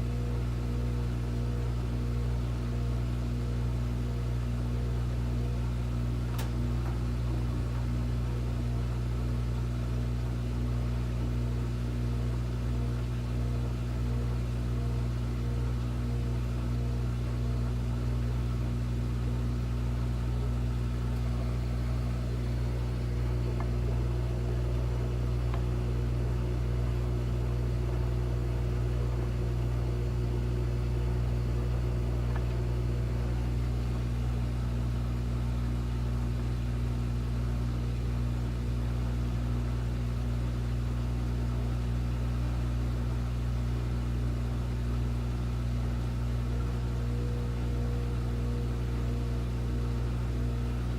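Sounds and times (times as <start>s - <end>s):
washing machine humming: 0.0s - 50.9s.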